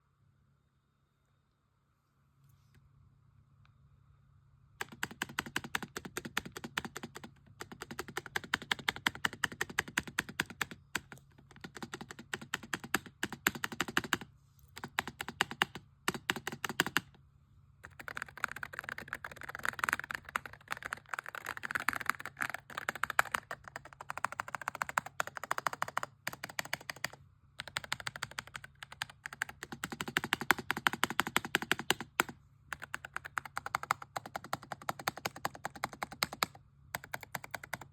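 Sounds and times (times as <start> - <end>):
mechanical keyboard typing: 4.8 - 17.2, 17.8 - 37.9.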